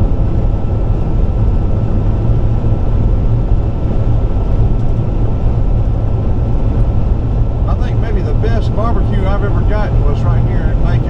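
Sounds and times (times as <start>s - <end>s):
car driving on highway: 0.0s - 11.0s.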